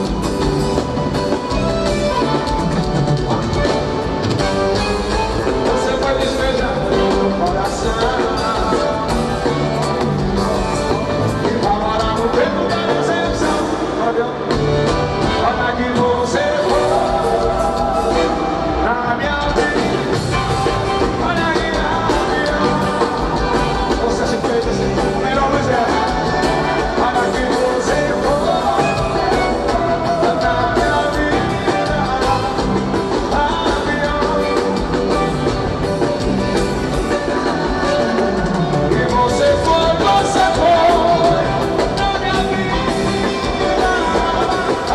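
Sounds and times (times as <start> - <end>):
live band music: 0.0 - 44.9
person singing: 0.0 - 44.9.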